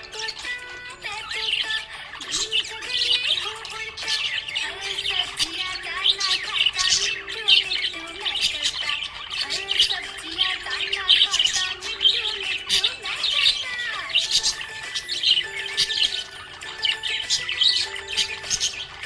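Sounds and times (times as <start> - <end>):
budgerigar chirping and warbling: 0.0 - 19.0.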